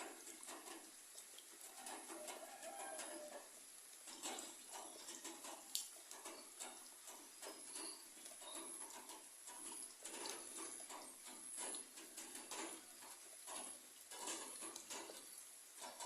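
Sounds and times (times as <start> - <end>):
rain pattering on leaves: 0.0 - 16.0.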